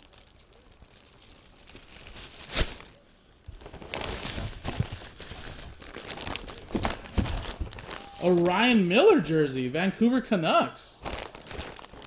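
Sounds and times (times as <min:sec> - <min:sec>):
tissue paper rustling and crinkling: 0:00.0 - 0:09.0, 0:11.0 - 0:12.0.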